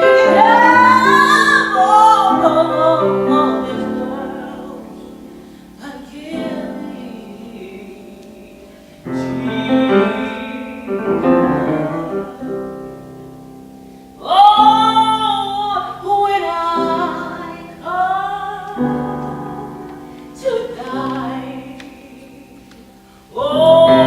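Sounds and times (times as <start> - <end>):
woman singing with vibrato: 0.0 - 13.1, 14.2 - 24.0
piano playing sacred piece: 0.0 - 24.0.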